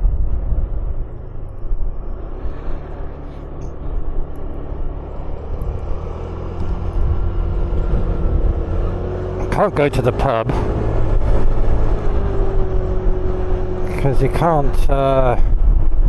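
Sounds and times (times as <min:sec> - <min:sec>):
motor scooter engine hum: 0:00.0 - 0:16.0
wind rumble on microphone: 0:00.0 - 0:16.0.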